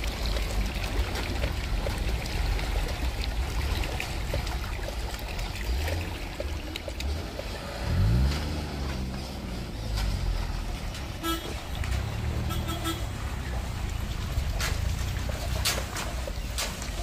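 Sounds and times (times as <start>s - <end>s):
small splashes and clicks: 0.0s - 17.0s
water streaming over rocks: 0.0s - 17.0s
steady low rumble: 0.6s - 17.0s.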